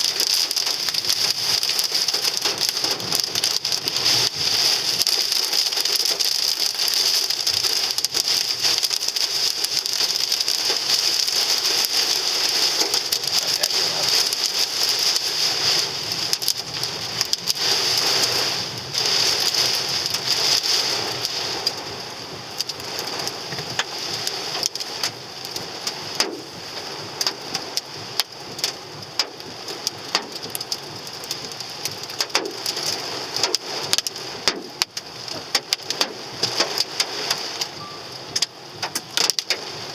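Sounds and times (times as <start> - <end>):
hail and rain pelting a car: 0.0 - 39.9.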